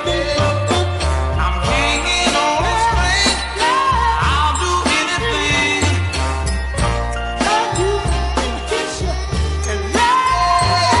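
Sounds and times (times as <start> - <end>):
soul music recording: 0.0 - 11.0.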